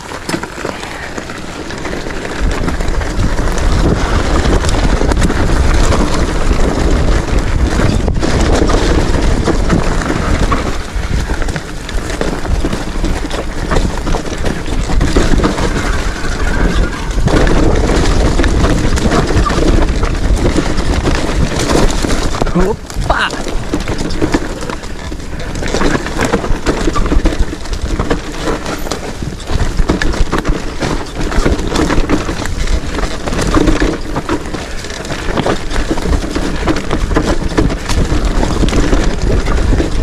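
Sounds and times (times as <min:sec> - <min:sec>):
motorcycle running: 0:00.0 - 0:40.0
wind buffeting microphone: 0:00.0 - 0:40.0.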